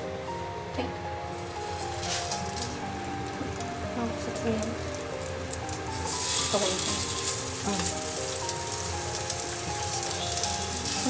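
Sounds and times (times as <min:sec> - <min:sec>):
light background music: 0:00.0 - 0:11.0
patties sizzling in oil: 0:01.3 - 0:11.0.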